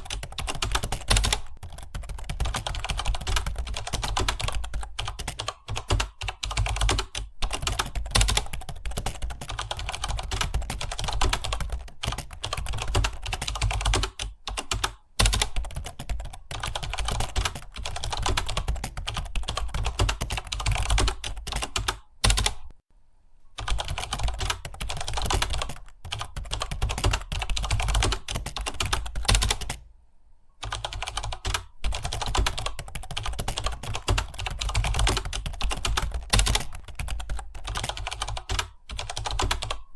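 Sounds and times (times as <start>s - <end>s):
fast typing on keyboard: 0.0s - 22.7s, 23.6s - 29.8s, 30.6s - 39.9s.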